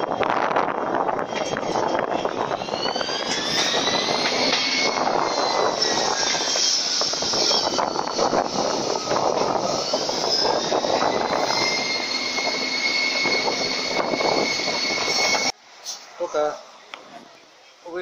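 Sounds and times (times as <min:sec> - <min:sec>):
train rattle and rumble: 0:00.0 - 0:15.5
high whine: 0:00.0 - 0:15.6.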